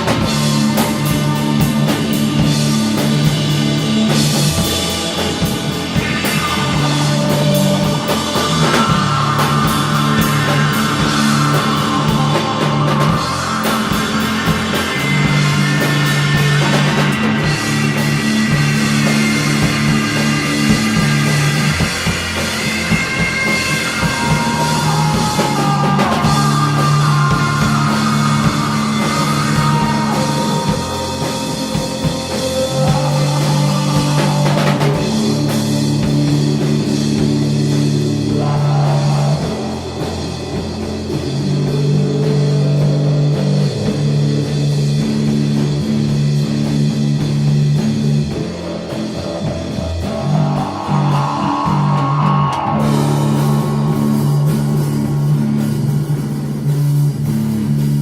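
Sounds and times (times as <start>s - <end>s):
stoner rock band music: 0.0s - 58.0s.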